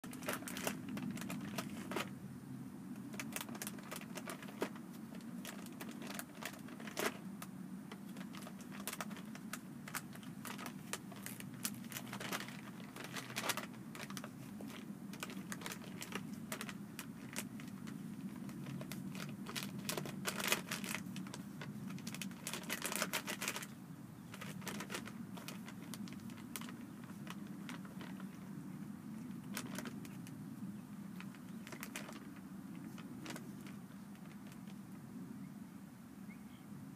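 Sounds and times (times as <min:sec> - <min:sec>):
plastic bag crinkling: 0:00.0 - 0:02.2, 0:03.0 - 0:34.8.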